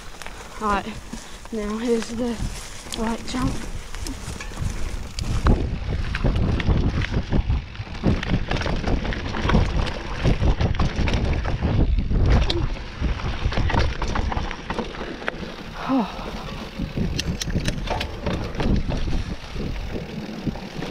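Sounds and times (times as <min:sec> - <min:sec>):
bike rattling over bumps: 0:00.0 - 0:20.9
wind buffeting microphone: 0:00.0 - 0:20.9.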